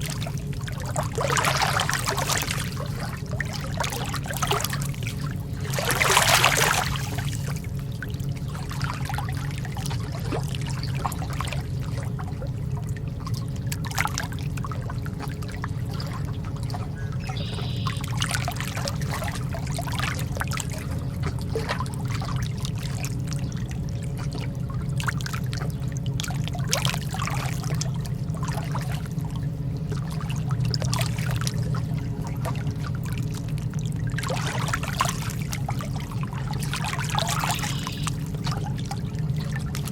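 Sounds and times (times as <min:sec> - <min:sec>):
lake water lapping at shore: 0:00.0 - 0:39.9
steady low rumble: 0:00.0 - 0:39.9.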